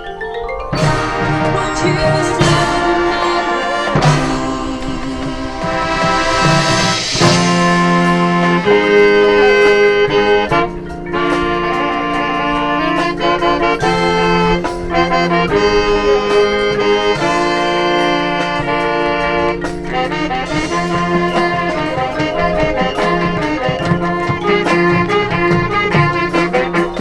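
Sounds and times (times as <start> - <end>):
marching band playing: 0.0 - 27.0.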